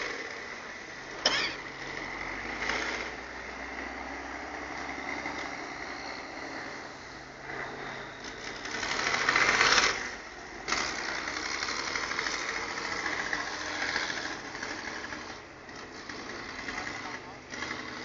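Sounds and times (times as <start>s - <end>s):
truck engine running hard: 0.0s - 18.0s.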